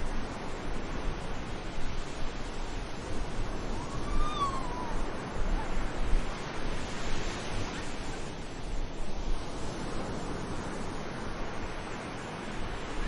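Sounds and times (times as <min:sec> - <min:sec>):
surf washing onto beach: 0:00.0 - 0:13.0
wind rumble on microphone: 0:00.0 - 0:13.0.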